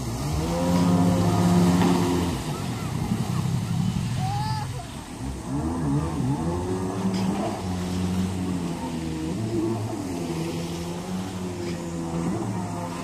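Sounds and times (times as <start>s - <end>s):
jet ski engine: 0.0s - 13.0s.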